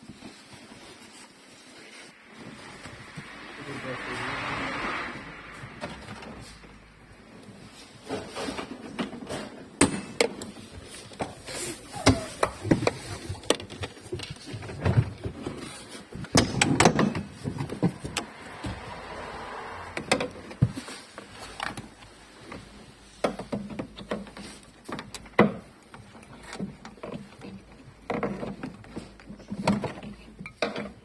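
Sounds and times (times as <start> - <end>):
car parts clicking and knocking: 5.7 - 31.0.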